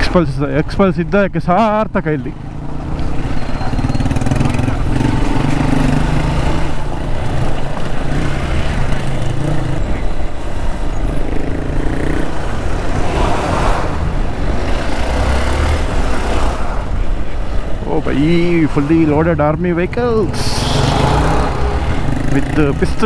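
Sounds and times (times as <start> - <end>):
road noise: 0.0 - 23.0
motorcycle engine running: 2.3 - 23.0.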